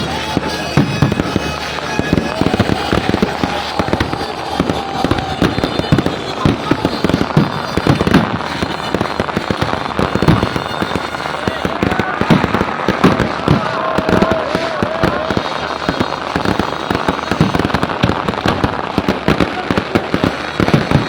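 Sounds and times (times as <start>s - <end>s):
fireworks popping and banging: 0.0s - 21.0s.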